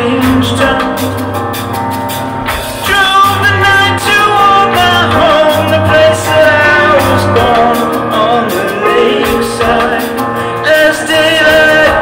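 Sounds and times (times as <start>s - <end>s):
man singing lead: 0.0s - 1.7s, 2.7s - 12.0s
drums with cymbals: 0.0s - 12.0s
electric bass guitar: 0.0s - 12.0s.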